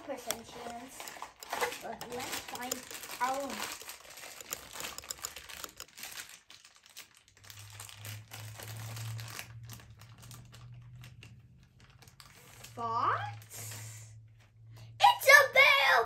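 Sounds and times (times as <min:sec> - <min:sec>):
foil bag crinkling and tearing: 0:00.2 - 0:13.5.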